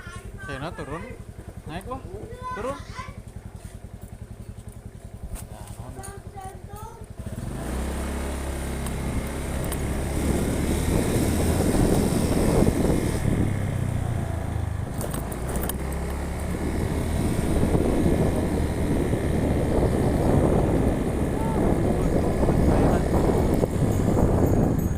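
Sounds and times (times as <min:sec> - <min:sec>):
road and wind noise: 0:00.0 - 0:24.9
vehicle engine hum: 0:00.0 - 0:24.9.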